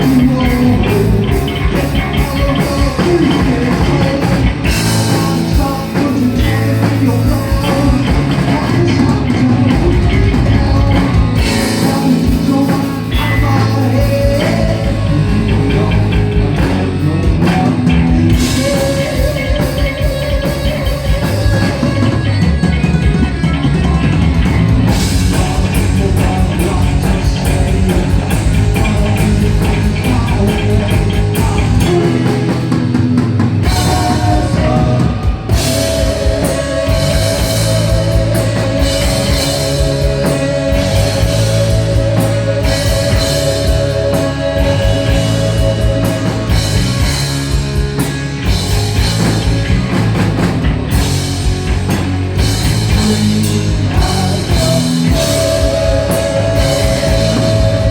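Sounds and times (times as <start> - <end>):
heavy metal band playing: 0.0 - 57.9.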